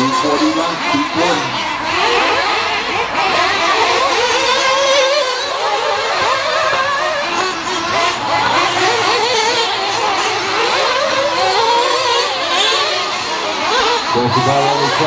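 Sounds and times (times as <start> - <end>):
rc car engines buzzing: 0.0 - 15.0.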